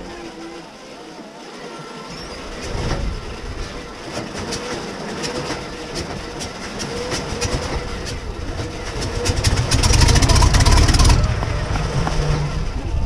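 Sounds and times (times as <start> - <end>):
aero engine starting: 0.0 - 13.0
steady whine: 0.0 - 13.0.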